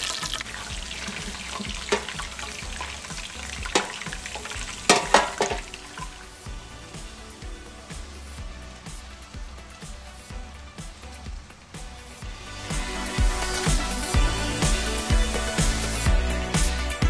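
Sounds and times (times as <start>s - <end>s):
chicken sizzling in deep oil: 0.0s - 17.0s
quiet background music: 0.0s - 17.0s.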